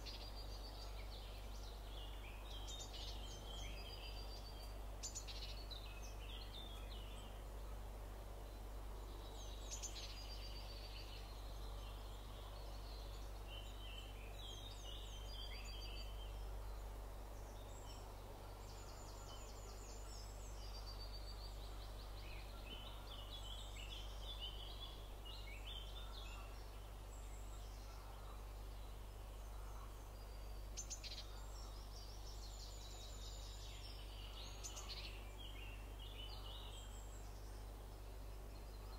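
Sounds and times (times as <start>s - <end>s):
low background hum: 0.0s - 38.9s
songbirds singing: 0.0s - 38.9s.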